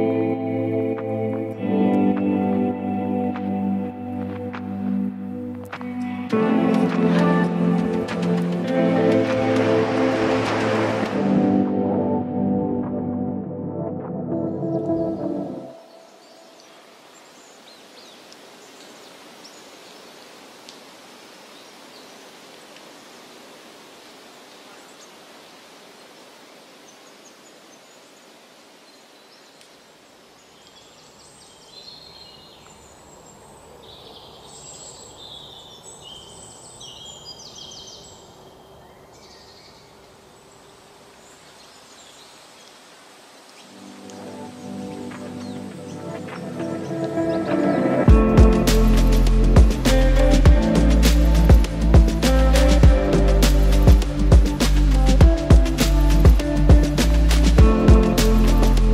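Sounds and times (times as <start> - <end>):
soft hiss of forest: 0.0 - 12.0, 14.6 - 58.9.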